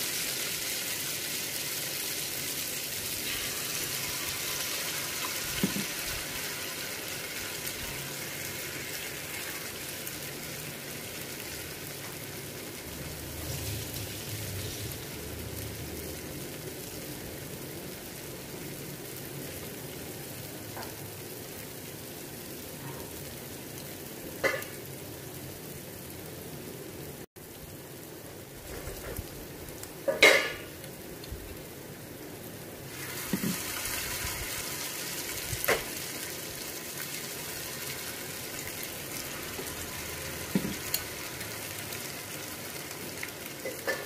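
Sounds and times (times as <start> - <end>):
ghee sizzling: 0.0 - 44.0.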